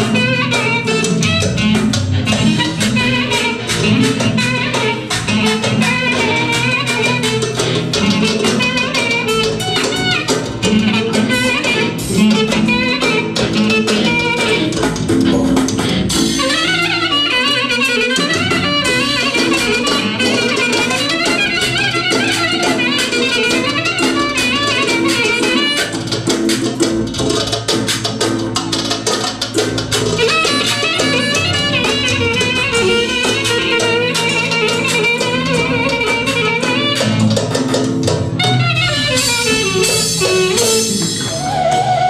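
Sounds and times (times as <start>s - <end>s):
clarinet playing fast melody: 0.0s - 42.0s
drum kit beat: 0.0s - 42.0s
electronic keyboard: 0.0s - 42.0s.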